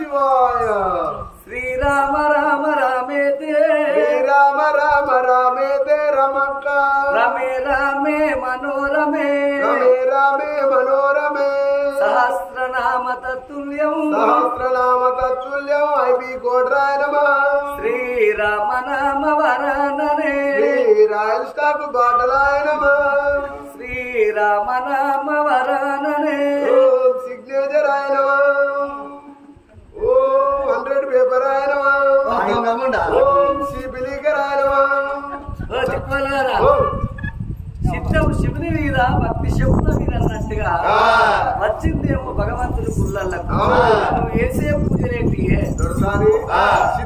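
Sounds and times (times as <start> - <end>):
voices chanting folk song: 0.0 - 37.2, 40.5 - 42.1, 42.9 - 44.9, 45.7 - 47.0.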